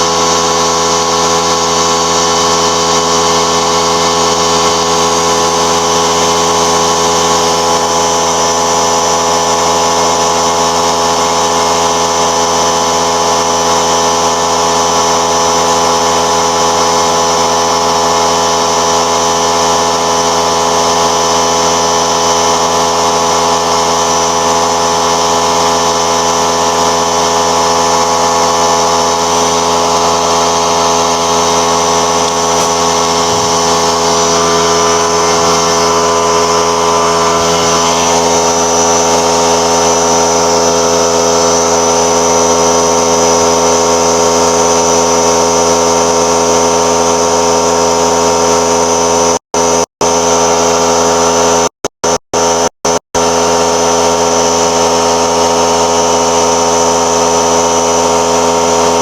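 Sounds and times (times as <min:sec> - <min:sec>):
motor humming steadily: 0:00.0 - 0:59.0.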